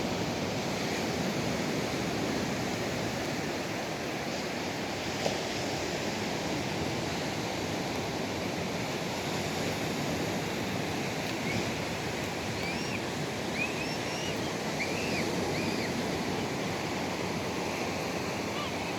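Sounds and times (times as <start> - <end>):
water rushing: 0.0 - 18.9.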